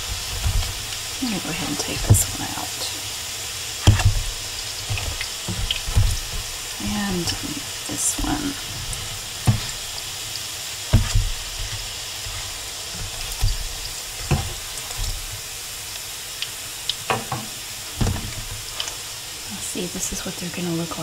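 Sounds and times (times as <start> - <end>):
patties sizzling in oil: 0.0 - 21.0.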